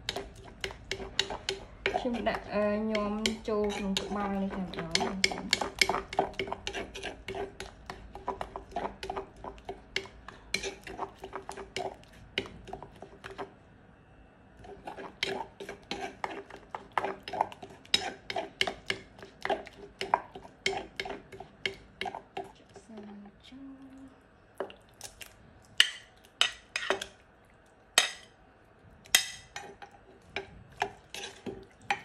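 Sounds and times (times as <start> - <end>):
spoon stirring in a pot: 0.0 - 13.5, 14.6 - 23.4, 25.8 - 27.2, 28.0 - 28.3, 29.0 - 32.0.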